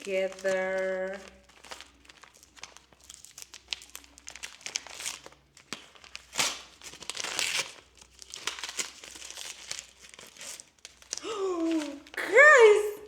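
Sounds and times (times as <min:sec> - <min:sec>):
paper tearing: 0:00.0 - 0:12.8
wrapping paper crinkling: 0:00.0 - 0:13.0.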